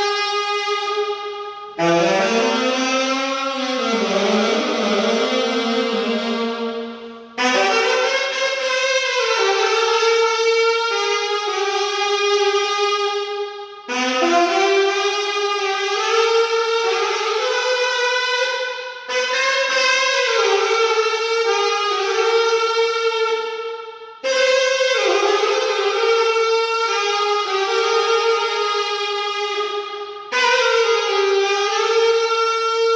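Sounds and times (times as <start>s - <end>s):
alto saxophone held notes: 0.0s - 13.1s, 13.9s - 18.5s, 19.1s - 23.4s, 24.2s - 32.9s.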